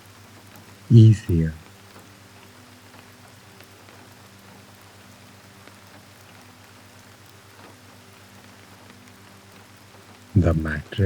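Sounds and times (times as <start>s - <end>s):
soft steady rain: 0.0s - 11.0s.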